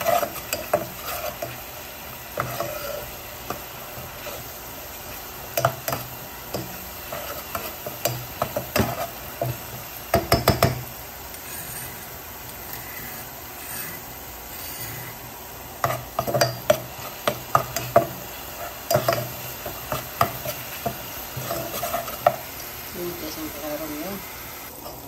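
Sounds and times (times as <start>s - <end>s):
metal spoon scraping a pan: 0.0s - 4.6s, 5.2s - 10.7s, 11.4s - 22.6s
spice paste sizzling in oil: 0.0s - 25.0s.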